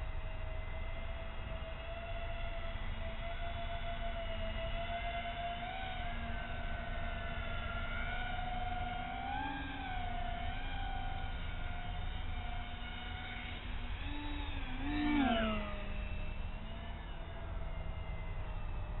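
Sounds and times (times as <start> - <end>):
motors and propellers whining: 0.0 - 19.0.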